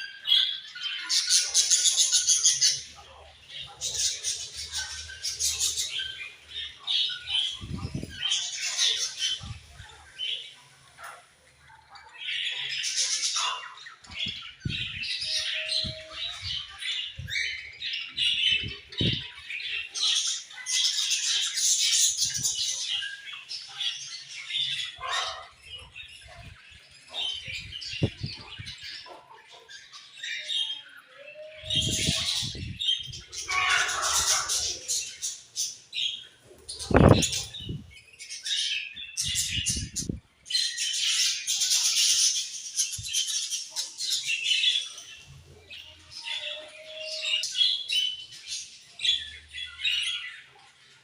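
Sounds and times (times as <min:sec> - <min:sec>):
budgerigars chirping and squawking: 0:00.0 - 0:51.0.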